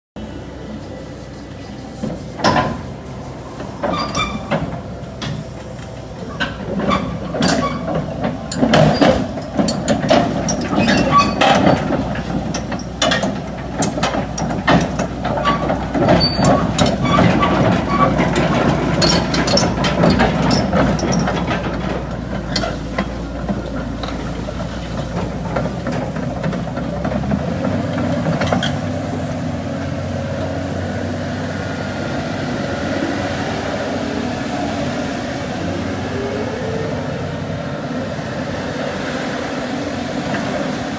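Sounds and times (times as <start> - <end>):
diesel engine running: 0.2 - 40.9.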